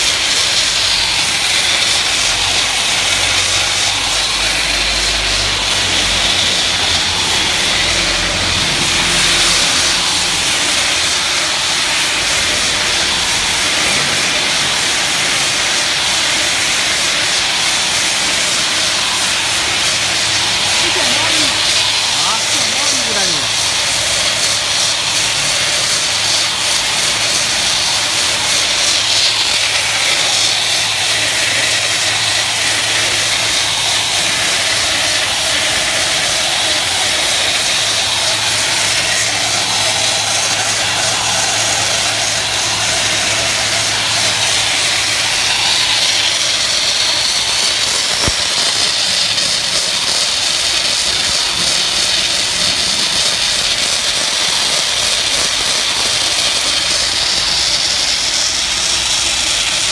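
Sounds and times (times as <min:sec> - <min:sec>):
low motor hum: 0:00.0 - 0:59.9
tape unwinding hiss and whir: 0:00.0 - 0:59.9.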